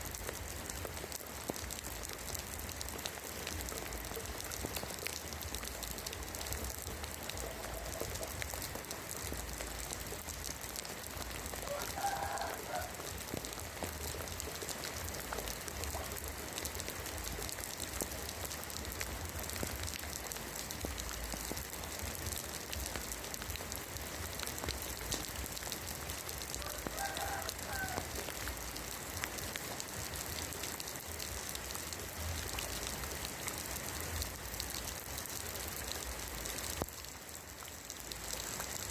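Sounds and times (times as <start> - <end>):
rain on roof tiles: 0.0 - 38.9.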